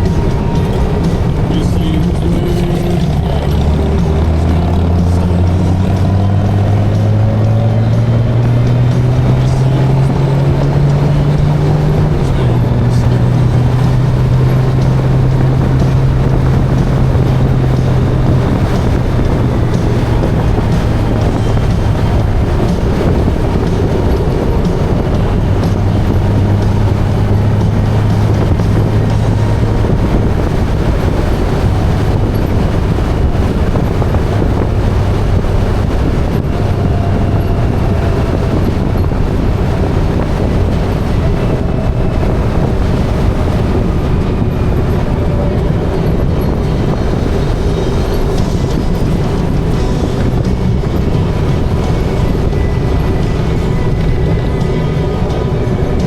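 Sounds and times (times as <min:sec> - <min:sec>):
motorcycle engine drone: 0:00.0 - 0:56.0
road and wind noise: 0:00.0 - 0:56.0.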